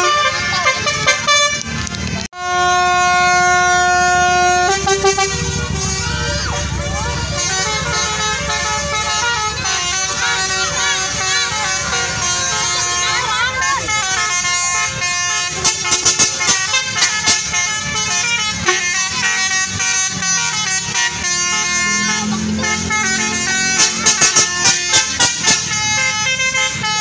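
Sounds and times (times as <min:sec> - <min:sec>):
bus horn playing a tune: 0:00.0 - 0:27.0.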